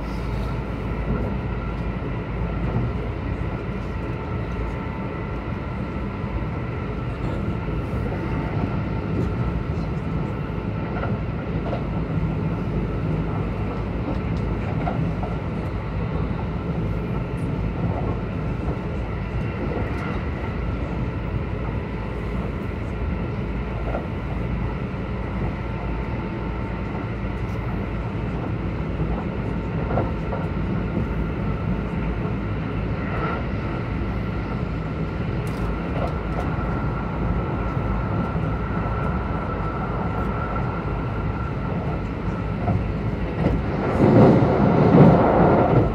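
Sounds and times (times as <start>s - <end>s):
low rumble of train wheels: 0.0s - 45.9s.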